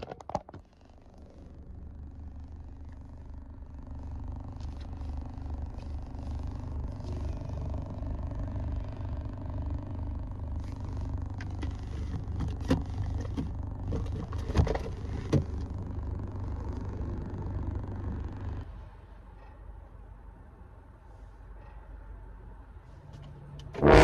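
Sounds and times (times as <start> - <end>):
car engine idling: 0.6 - 24.0.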